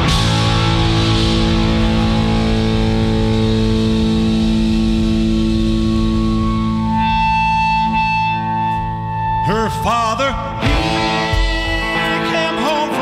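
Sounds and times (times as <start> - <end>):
bass guitar: 0.0 - 13.0
guitar chord ringing: 0.0 - 13.0.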